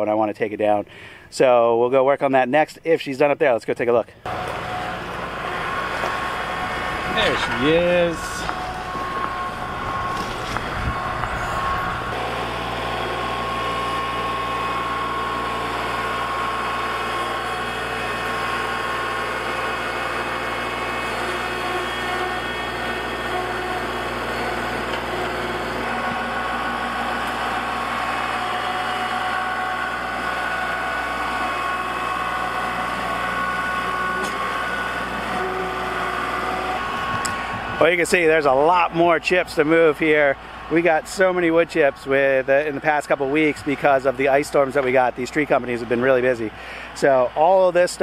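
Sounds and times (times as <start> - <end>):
diesel tractor engine running: 4.2 - 48.0
loader pushing wood chips: 4.2 - 48.0.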